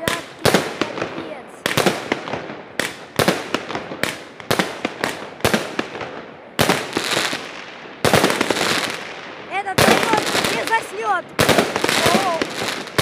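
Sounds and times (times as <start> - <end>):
firework bangs and shell bursts: 0.0 - 13.0
firework crackling: 0.0 - 13.0.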